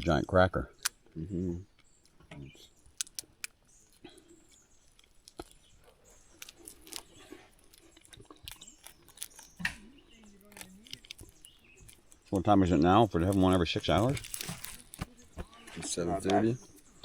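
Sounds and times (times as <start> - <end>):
faint chewing with crunches: 0.0 - 17.0.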